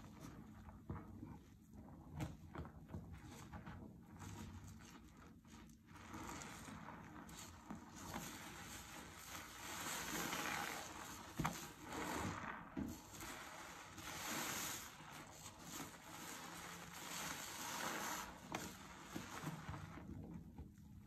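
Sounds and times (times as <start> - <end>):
soapy sponge squelching: 0.0 - 20.7.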